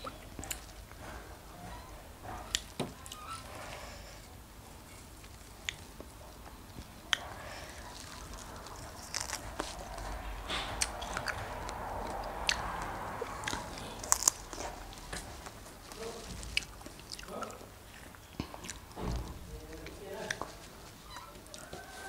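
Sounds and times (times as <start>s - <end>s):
strawberries being bitten and chewed: 0.0s - 21.9s.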